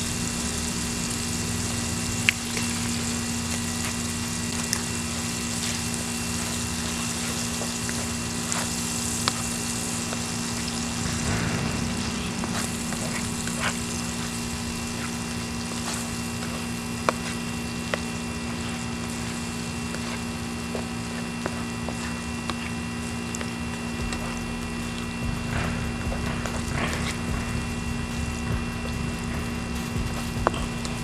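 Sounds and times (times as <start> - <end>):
food sizzling in skillet: 0.0 - 31.0
low hum: 0.0 - 31.0.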